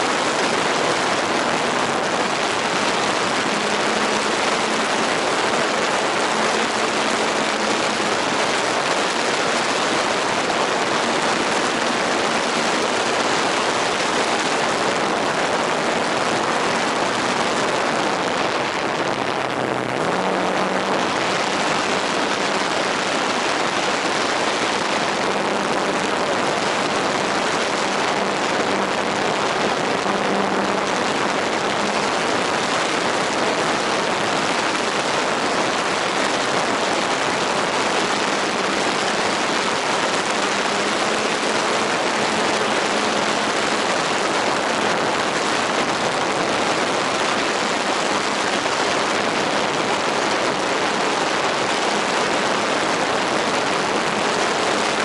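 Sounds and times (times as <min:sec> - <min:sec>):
model airplane motor drone: 0:00.0 - 0:50.1
loud even hiss: 0:00.0 - 0:55.0.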